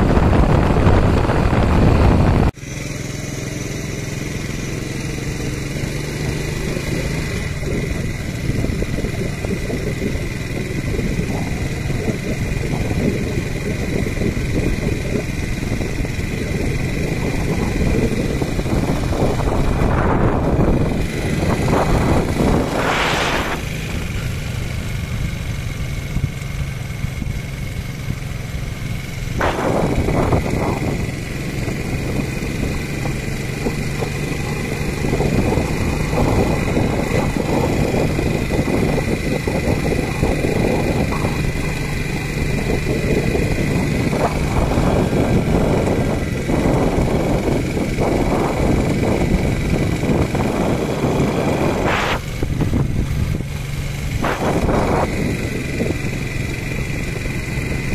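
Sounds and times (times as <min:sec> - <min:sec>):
moped engine running: 0:00.0 - 0:57.9
steady high whine: 0:00.0 - 0:57.9
wind rushing over microphone: 0:00.0 - 0:57.9.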